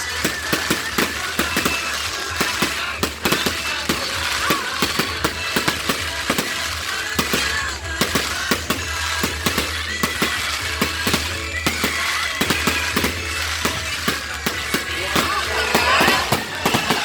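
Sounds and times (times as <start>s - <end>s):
firework whistles: 0.0s - 17.0s
fireworks bangs and crackles: 0.0s - 17.0s.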